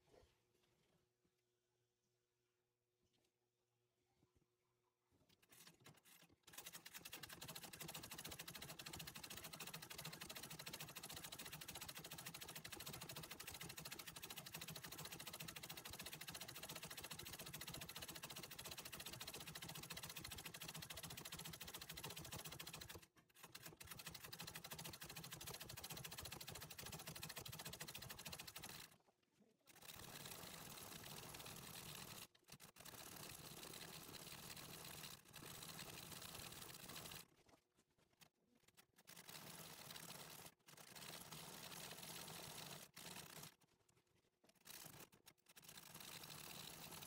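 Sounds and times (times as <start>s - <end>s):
treadle sewing machine stitching: 5.4s - 29.0s, 29.7s - 37.3s, 38.7s - 43.6s, 44.5s - 47.0s.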